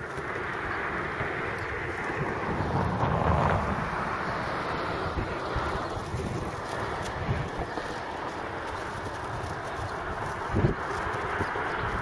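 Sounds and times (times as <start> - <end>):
diesel locomotive idling: 0.0 - 12.0
wind buffeting microphone: 0.0 - 12.0.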